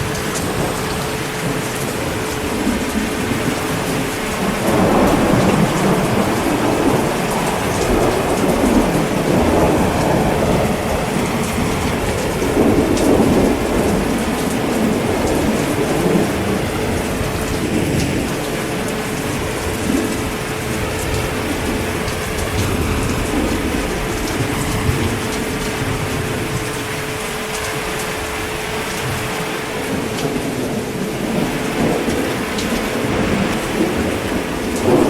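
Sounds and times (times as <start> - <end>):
heavy rain: 0.0 - 35.0
thunder rumbling: 0.0 - 35.0.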